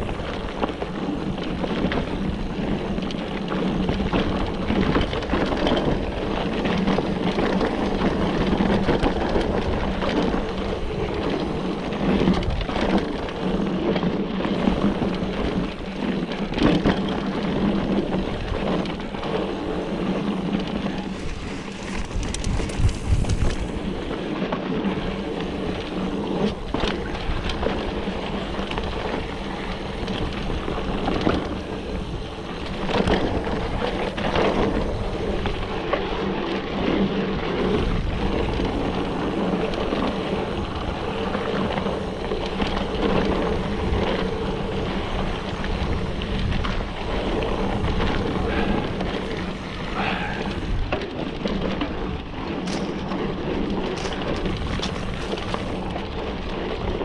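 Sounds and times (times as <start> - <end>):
bike knocking and rattling: 0.0 - 57.0
bike tyres rolling on dirt: 0.0 - 57.0.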